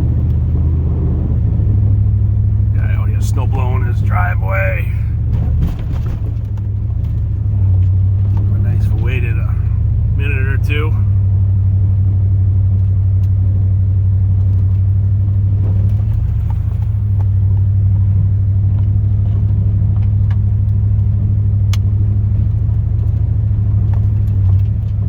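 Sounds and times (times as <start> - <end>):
truck engine drone from inside cab: 0.0 - 25.0.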